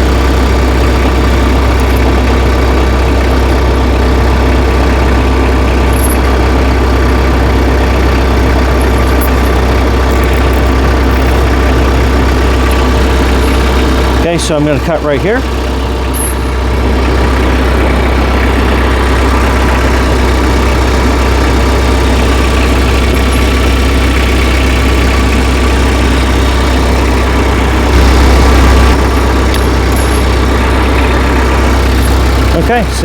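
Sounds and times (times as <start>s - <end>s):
tractor engine idling: 0.0s - 33.0s.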